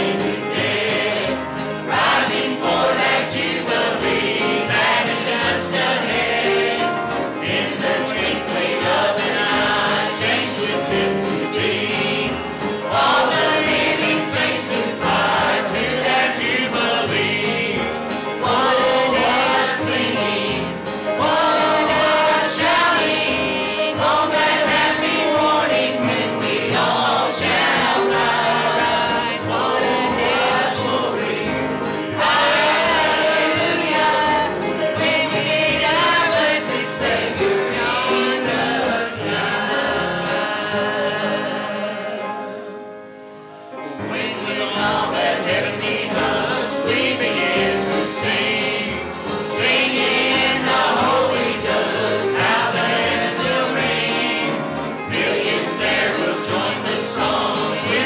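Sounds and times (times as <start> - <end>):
group singing a hymn: 0.0 - 58.0
instrumental accompaniment: 0.0 - 58.0.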